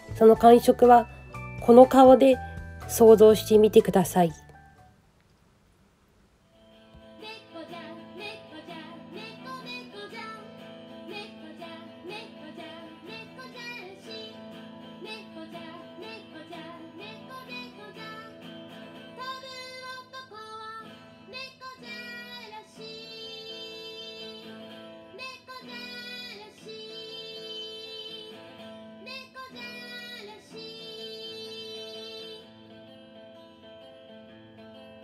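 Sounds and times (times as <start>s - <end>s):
woman singing: 0.0s - 4.4s, 7.0s - 32.6s
guitar accompaniment: 0.0s - 5.0s, 6.6s - 35.0s.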